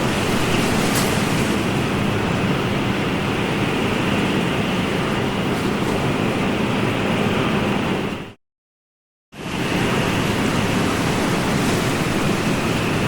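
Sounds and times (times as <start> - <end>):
ocean surf: 0.0 - 8.0, 9.4 - 13.0.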